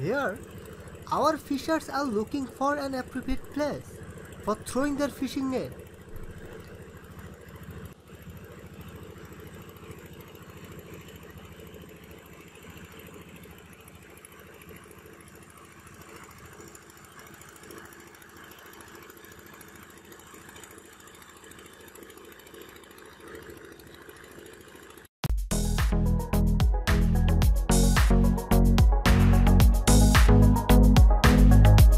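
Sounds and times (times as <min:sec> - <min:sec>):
boat engine running: 0:00.0 - 0:31.9.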